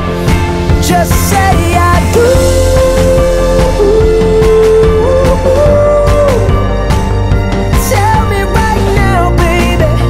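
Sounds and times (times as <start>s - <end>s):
pop music with steady beat: 0.0s - 10.0s.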